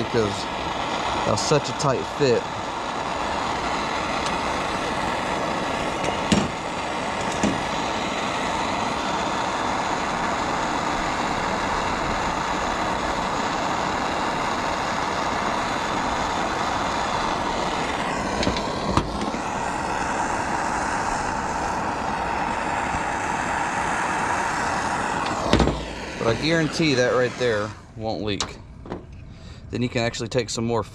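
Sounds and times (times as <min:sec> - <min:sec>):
gas torch hissing: 0:00.0 - 0:29.2.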